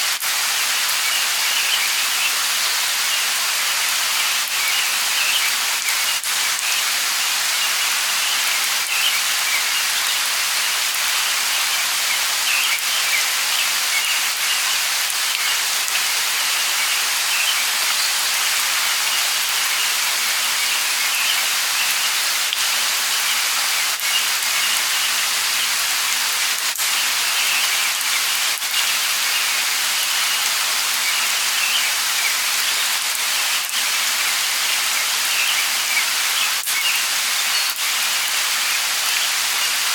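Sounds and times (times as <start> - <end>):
light rain: 0.0 - 39.9
birds chirping: 1.0 - 39.9.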